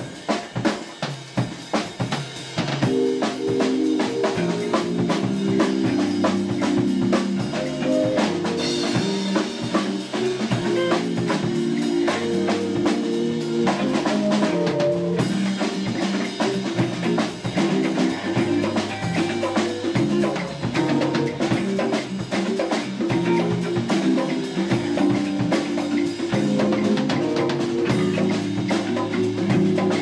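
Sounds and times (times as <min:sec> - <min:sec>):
band playing: 0:00.0 - 0:30.0
drum kit beat: 0:00.0 - 0:30.0
hand percussion: 0:02.6 - 0:30.0
held chords: 0:02.9 - 0:30.0.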